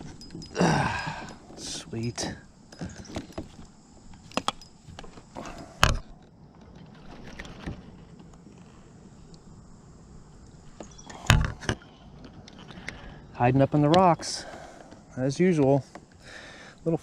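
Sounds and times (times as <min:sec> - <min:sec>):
fishing gear knocking and rattling: 0:00.0 - 0:08.8, 0:10.5 - 0:16.1
faint outdoor background: 0:00.0 - 0:17.0.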